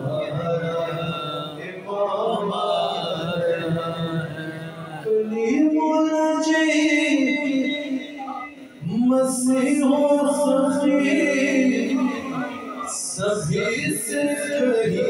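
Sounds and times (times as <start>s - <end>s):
man singing through loudspeakers: 0.0s - 15.0s.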